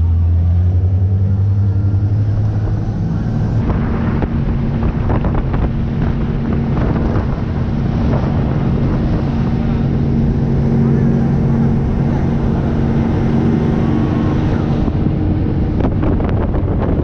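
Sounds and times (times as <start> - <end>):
motorboat engine running: 0.0 - 17.0
rushing water: 0.0 - 17.0
wind noise on microphone: 0.0 - 17.0.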